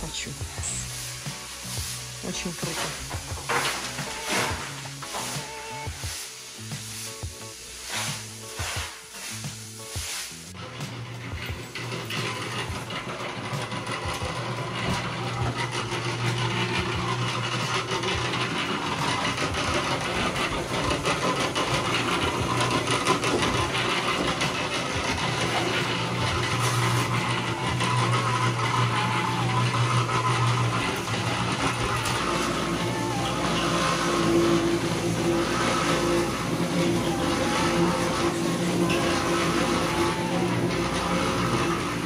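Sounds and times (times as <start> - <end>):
motor humming: 0.0 - 42.0.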